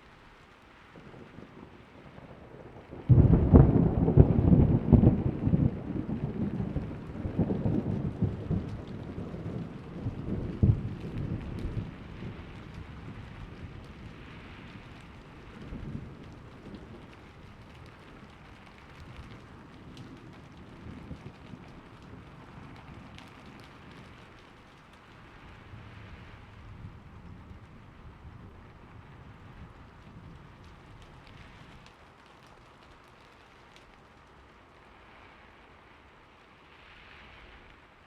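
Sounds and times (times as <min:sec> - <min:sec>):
steady rain: 0:00.0 - 0:38.0
thunder cracking and rumbling: 0:00.9 - 0:33.1.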